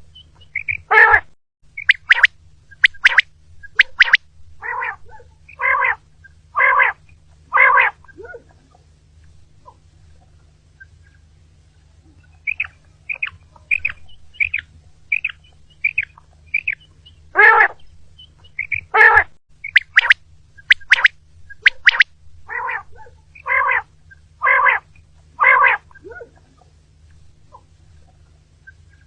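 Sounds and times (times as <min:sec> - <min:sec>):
quail calling: 0:00.0 - 0:29.0.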